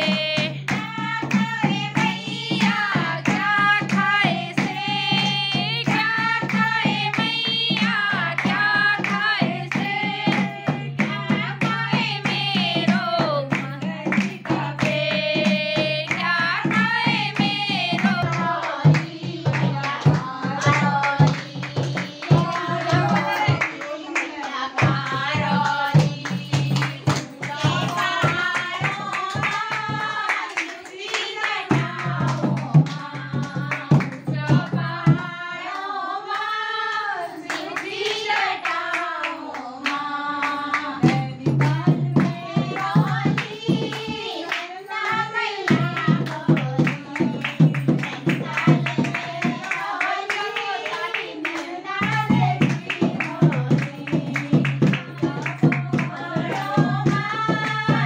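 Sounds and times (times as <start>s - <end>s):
hand drum: 0.0s - 23.8s, 24.6s - 35.5s, 40.5s - 58.0s
handclaps: 0.0s - 58.0s
women singing: 0.0s - 58.0s.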